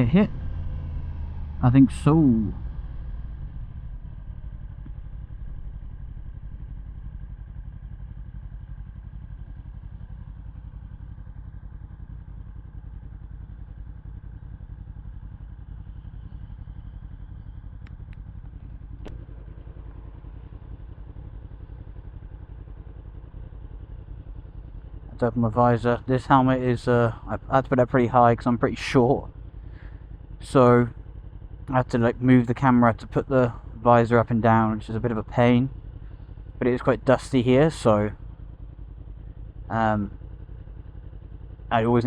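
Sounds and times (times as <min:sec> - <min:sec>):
motorcycle engine idling: 0:00.0 - 0:42.0.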